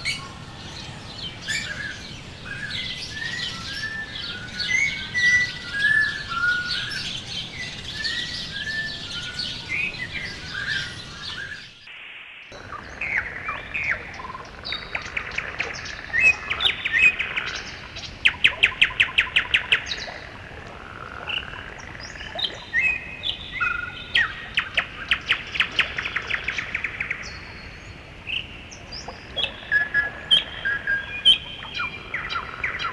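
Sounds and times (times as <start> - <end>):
songbirds chirping and trilling: 0.0 - 32.9.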